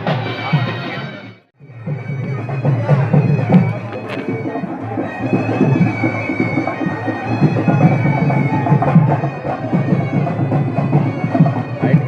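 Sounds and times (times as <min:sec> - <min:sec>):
reed pipes playing a melody: 0:00.0 - 0:12.0.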